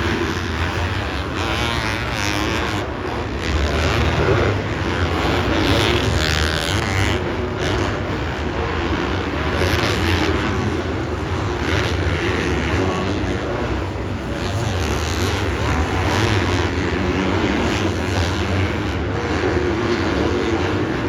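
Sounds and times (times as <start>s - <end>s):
dirt-bike engines racing: 0.0s - 21.0s.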